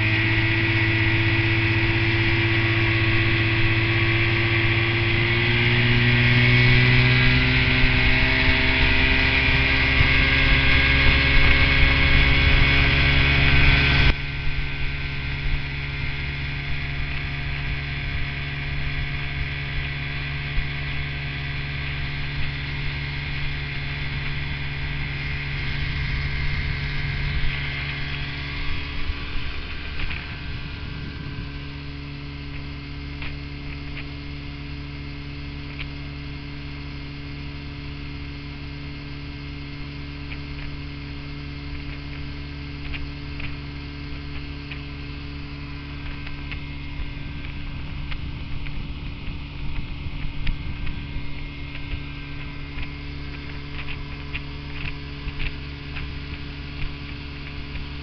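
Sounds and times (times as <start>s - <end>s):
outboard motor humming: 0.0s - 58.0s.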